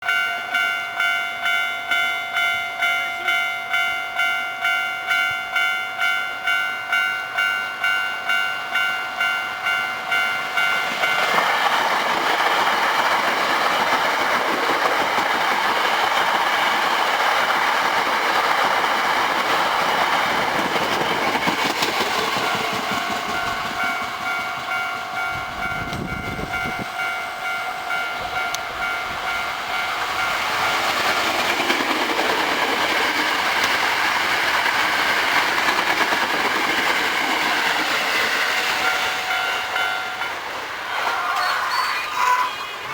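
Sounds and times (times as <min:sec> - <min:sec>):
electric train passing: 0:00.0 - 0:42.9
level-crossing warning bell: 0:00.0 - 0:42.9.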